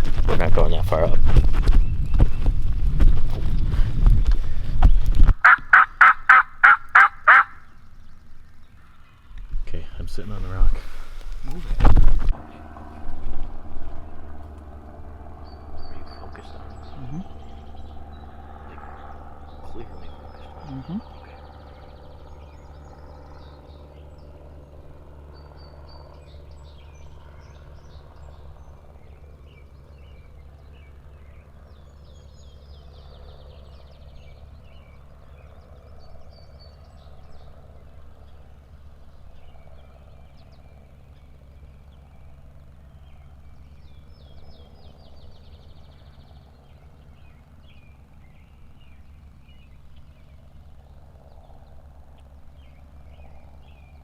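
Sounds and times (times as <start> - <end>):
small birds singing: 0.0 - 54.0
steady low rumble: 0.0 - 54.0.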